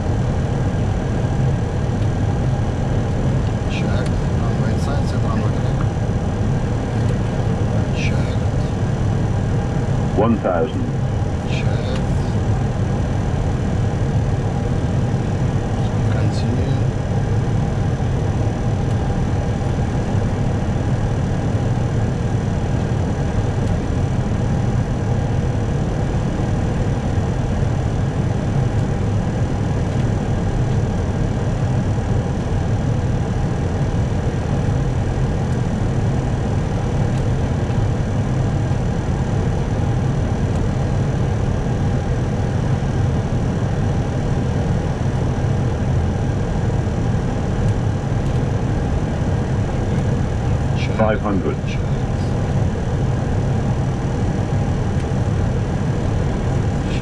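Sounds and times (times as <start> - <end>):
airflow and engine rumble: 0.0 - 57.0.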